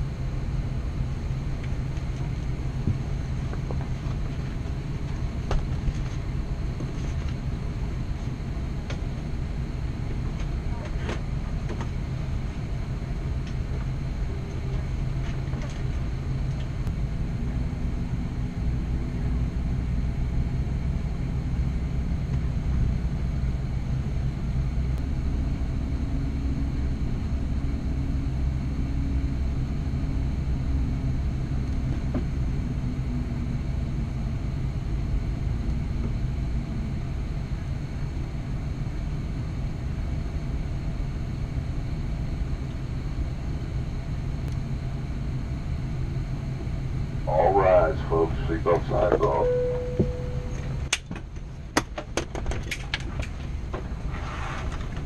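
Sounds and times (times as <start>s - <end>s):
airliner cabin low rumble: 0.0s - 55.0s
faint hum: 0.0s - 55.0s.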